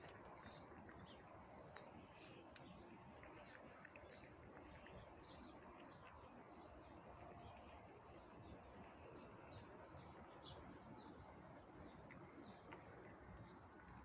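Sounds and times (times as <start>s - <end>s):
faint small bird chirps: 0.0s - 14.0s.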